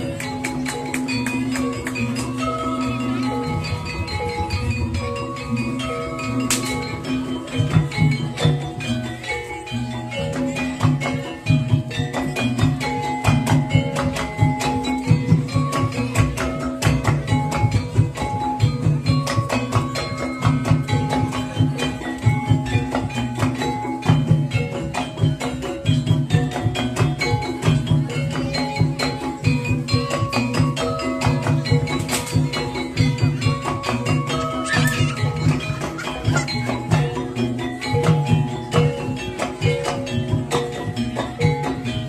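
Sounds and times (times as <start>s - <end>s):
continuous drum beat: 0.0s - 42.0s
gongs and metallophones ringing: 0.0s - 42.0s.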